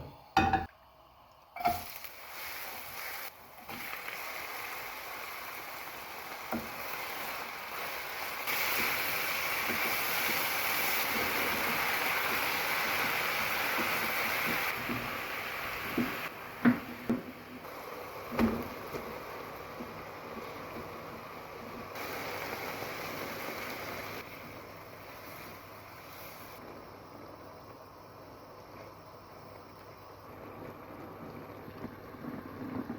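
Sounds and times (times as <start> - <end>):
food hissing in a pot: 1.6 - 32.9.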